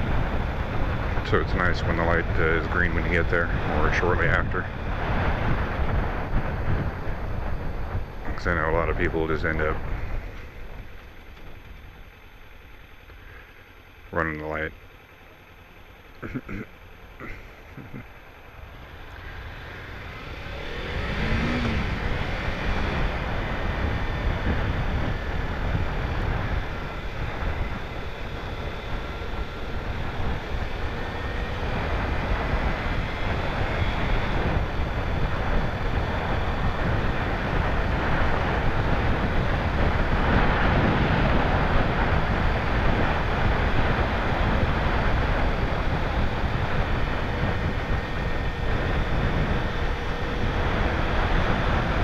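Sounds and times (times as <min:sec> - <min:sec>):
motorcycle engine accelerating: 0:00.0 - 0:13.2, 0:15.2 - 0:52.0
wind and road noise: 0:00.0 - 0:52.0.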